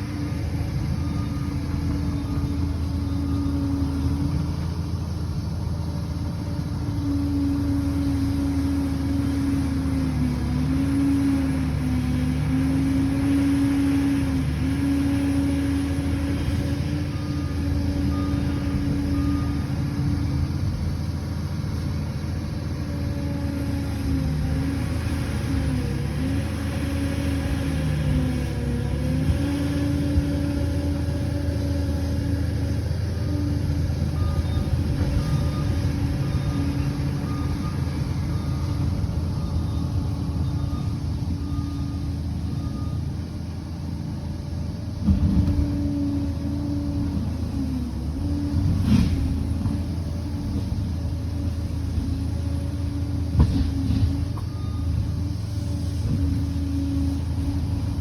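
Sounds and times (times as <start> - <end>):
bulldozer diesel engine running: 0.0 - 58.0
engine whine: 0.0 - 58.0.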